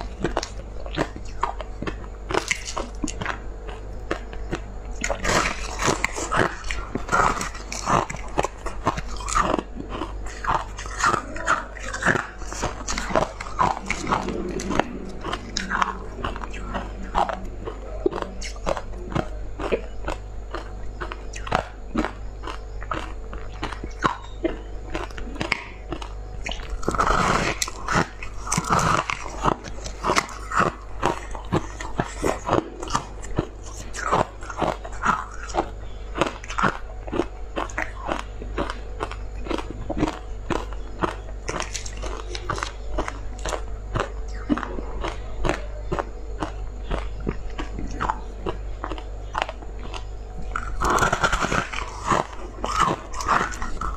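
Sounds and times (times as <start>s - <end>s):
chewing crushed ice: 0.0s - 53.9s.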